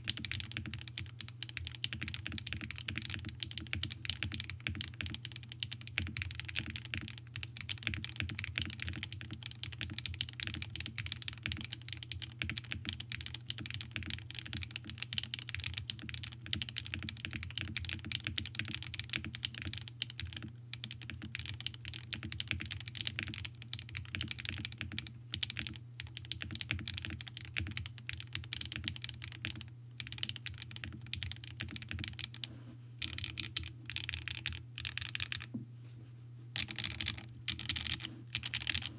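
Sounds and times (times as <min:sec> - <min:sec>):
mechanical keyboard typing: 0:00.0 - 0:35.5, 0:36.6 - 0:38.9.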